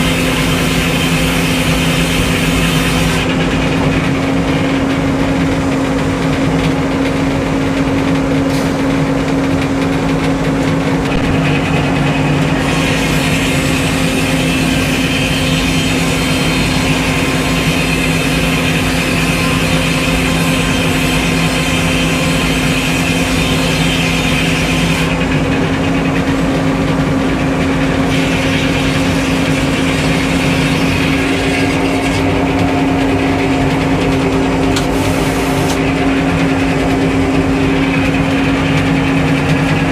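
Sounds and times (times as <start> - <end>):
saw blade cutting log: 0.0 - 5.0, 11.1 - 26.6, 27.5 - 39.9
sawmill engine running: 0.0 - 39.9.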